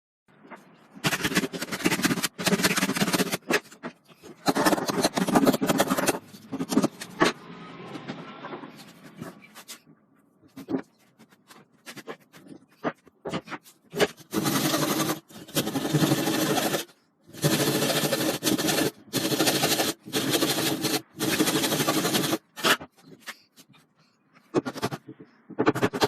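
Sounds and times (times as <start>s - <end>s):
hand tool scraping wood: 0.5s - 7.4s, 8.7s - 9.9s, 10.5s - 23.8s.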